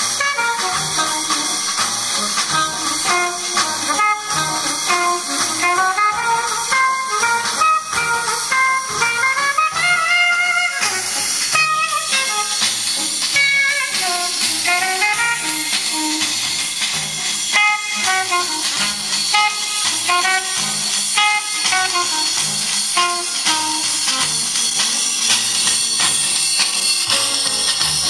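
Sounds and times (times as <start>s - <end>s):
steady drum beat: 0.0s - 28.0s.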